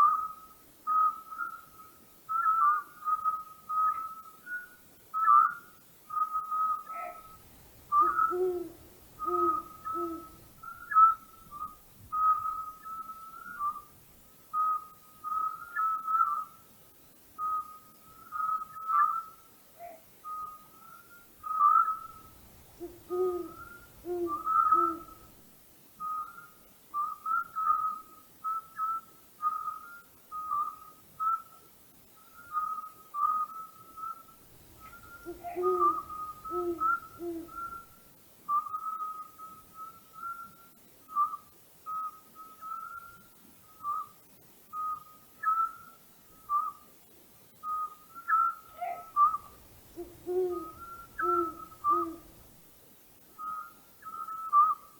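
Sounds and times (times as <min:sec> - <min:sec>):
owl hooting: 0:00.0 - 0:13.9, 0:14.5 - 0:16.6, 0:17.4 - 0:25.4, 0:26.0 - 0:31.6, 0:32.2 - 0:46.8, 0:47.6 - 0:52.4, 0:53.4 - 0:54.9.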